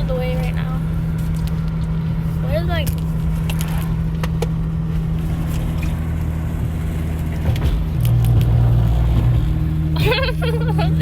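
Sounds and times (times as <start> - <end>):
car engine and road drone: 0.0 - 11.0
deeper hum: 0.0 - 11.0.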